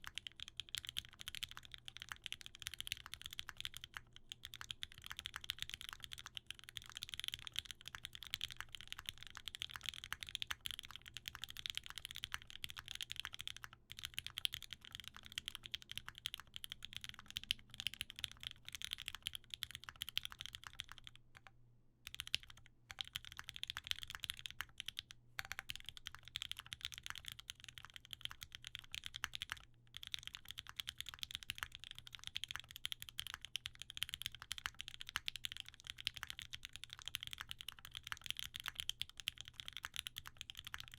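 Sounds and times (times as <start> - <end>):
rapid typing on mechanical keyboard: 0.0 - 21.2, 22.1 - 40.9.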